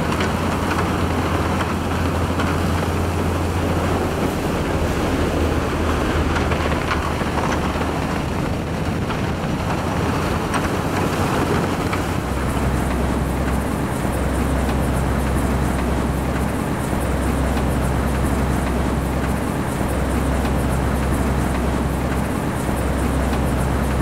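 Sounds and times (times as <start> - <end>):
snowplow machine drone: 0.0 - 24.0.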